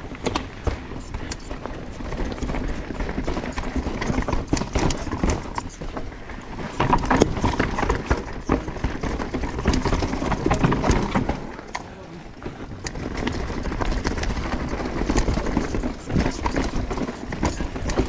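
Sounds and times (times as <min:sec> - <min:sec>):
bike rattling: 0:00.0 - 0:18.0
tyres knocking over rocks: 0:00.1 - 0:18.0.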